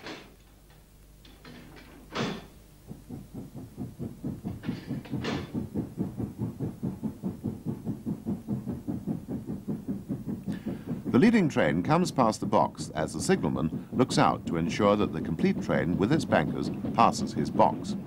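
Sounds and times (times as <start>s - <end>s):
steam locomotive exhaust beats: 0.0s - 18.0s.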